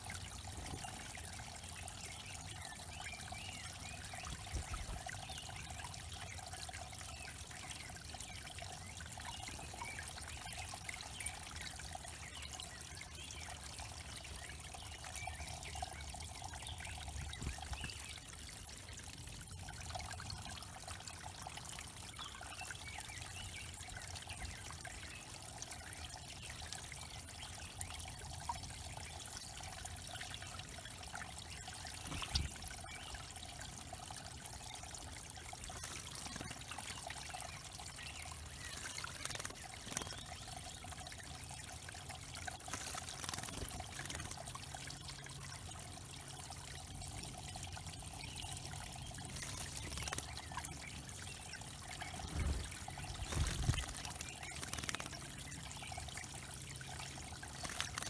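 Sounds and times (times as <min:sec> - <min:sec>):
small waterfall trickling: 0:00.0 - 0:58.0.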